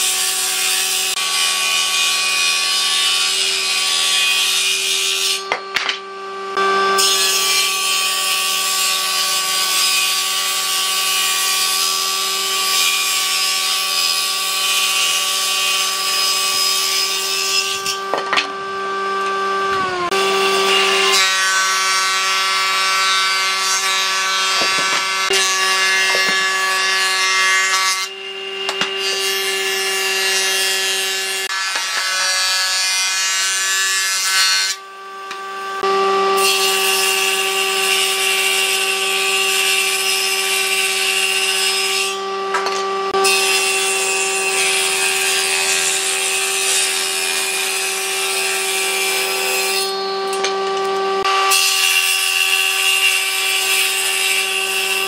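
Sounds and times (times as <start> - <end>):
power tool cutting wood: 0.0 - 55.0.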